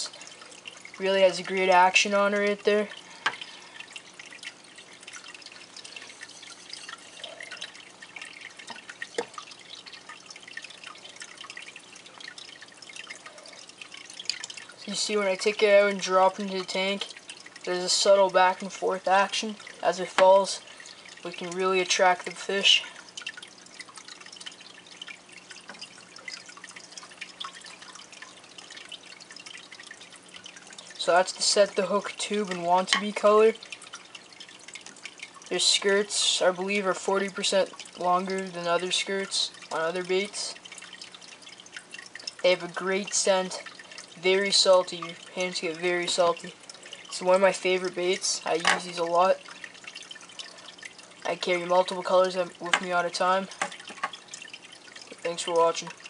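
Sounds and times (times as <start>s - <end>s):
aquarium aeration bubbling: 0.0s - 56.0s
low steady hum: 0.0s - 56.0s.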